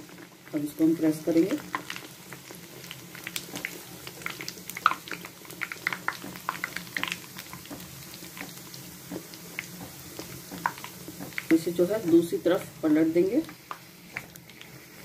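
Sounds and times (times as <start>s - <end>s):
hot oil bubbling and crackling: 0.0s - 15.0s.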